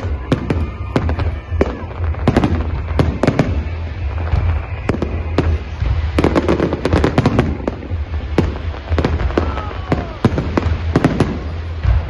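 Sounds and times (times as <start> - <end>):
fireworks bursting in sharp bangs: 0.0 - 12.0
steady low rumble: 0.0 - 12.0.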